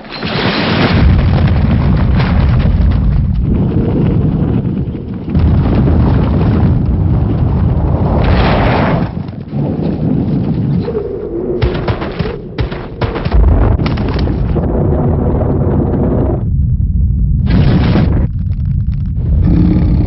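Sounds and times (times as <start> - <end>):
heavy continuous rumble: 0.8 - 20.0.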